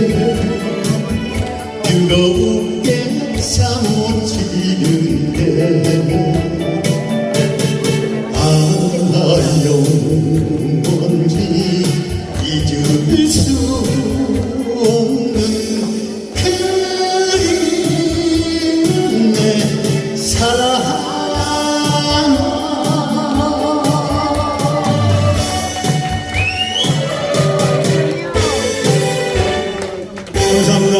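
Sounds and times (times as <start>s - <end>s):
band accompaniment: 0.0s - 30.9s
person singing: 0.0s - 30.9s.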